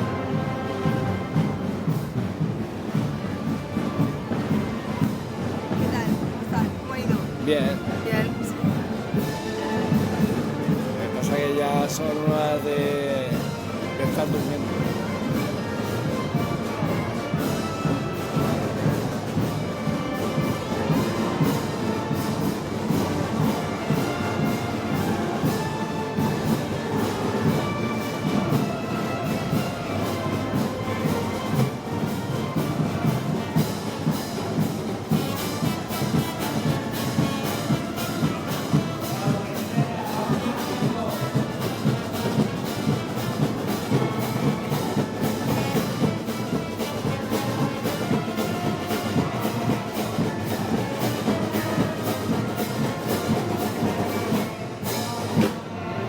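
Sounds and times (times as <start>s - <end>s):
steady drum beat: 0.0s - 55.7s
brass band playing march: 0.0s - 56.0s.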